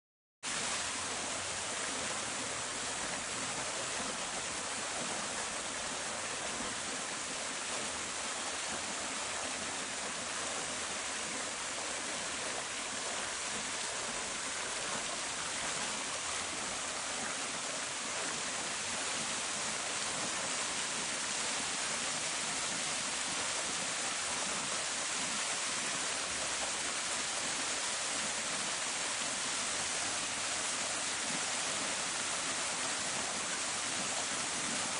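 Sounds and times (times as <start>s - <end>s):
fountain water splashing: 0.5s - 34.9s.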